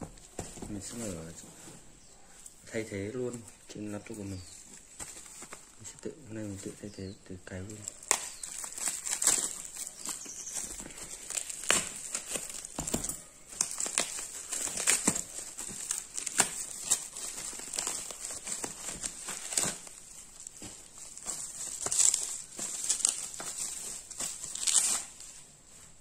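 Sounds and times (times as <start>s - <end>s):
plastic packaging crinkling: 0.1s - 26.0s.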